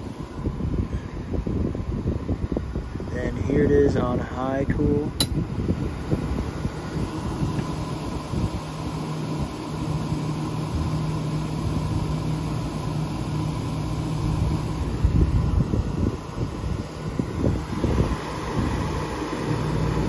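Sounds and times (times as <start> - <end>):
air conditioner fan blowing: 0.0 - 20.0.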